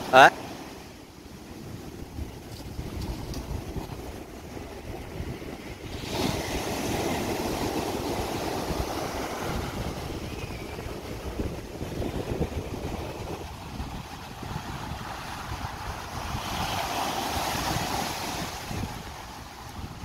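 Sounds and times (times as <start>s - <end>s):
waves crashing on beach: 0.0s - 20.0s
wind rumble on microphone: 0.0s - 20.0s.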